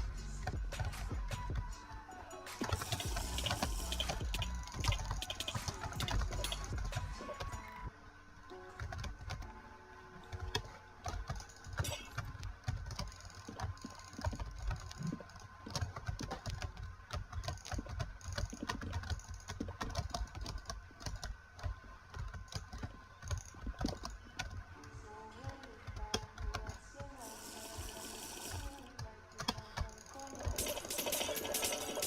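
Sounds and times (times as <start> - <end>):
computer mouse clicking: 2.5 - 7.8, 10.2 - 32.0.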